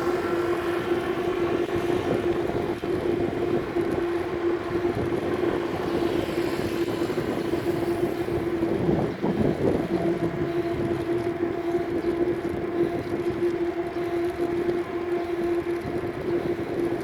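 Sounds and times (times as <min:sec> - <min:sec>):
bicycle tyre and road rush: 0:00.0 - 0:17.0
steady low hum: 0:00.0 - 0:17.0
wind on microphone: 0:00.0 - 0:17.0.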